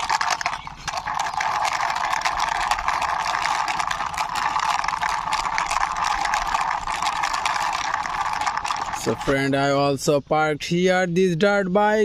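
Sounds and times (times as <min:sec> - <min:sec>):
toy bike wheels whirring and clicking: 0:00.0 - 0:09.8.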